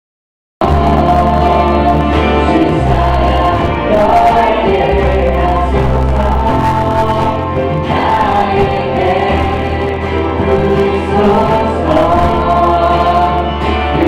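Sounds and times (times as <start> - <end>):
low bass line: 0.6 - 14.0
man singing into a microphone: 0.6 - 14.0
strummed acoustic guitar: 0.6 - 14.0
woman singing along: 0.6 - 14.0.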